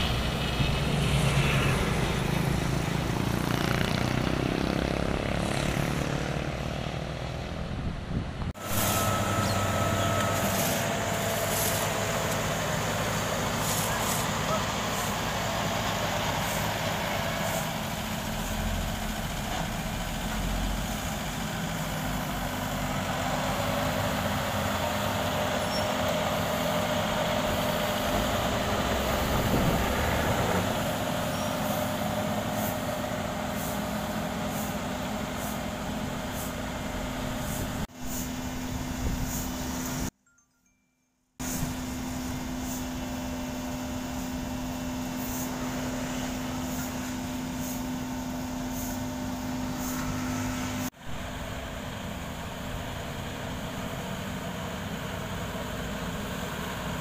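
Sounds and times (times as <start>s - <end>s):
diesel engines running: 0.0s - 40.1s, 41.4s - 57.0s.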